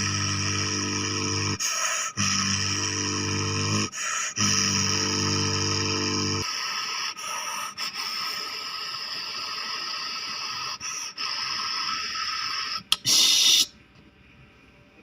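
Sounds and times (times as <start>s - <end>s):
air conditioner unit hissing: 0.0s - 15.0s.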